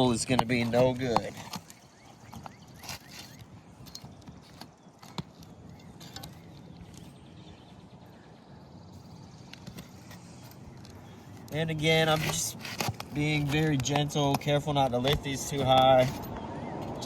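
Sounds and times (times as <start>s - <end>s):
nails scraping under shingles: 0.0s - 7.2s, 9.5s - 16.4s
faint background noise: 0.0s - 17.0s.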